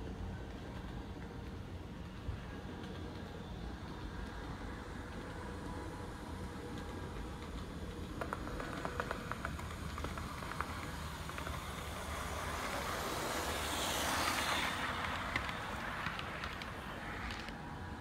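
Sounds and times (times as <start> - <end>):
model train whirring past: 0.0 - 18.0
wheels clicking on rails: 0.0 - 18.0.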